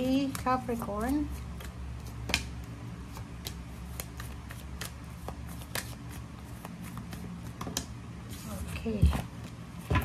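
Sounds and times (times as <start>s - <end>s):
cards being shuffled: 0.0s - 9.9s.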